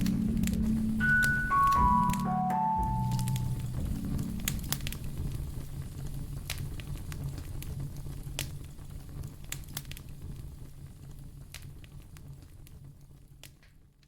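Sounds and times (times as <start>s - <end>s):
fire crackling and popping: 0.0s - 1.4s, 3.3s - 14.0s.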